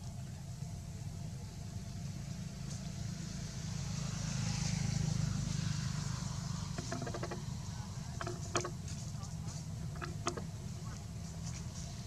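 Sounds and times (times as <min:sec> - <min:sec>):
passing vehicle rumble: 0:01.8 - 0:12.0.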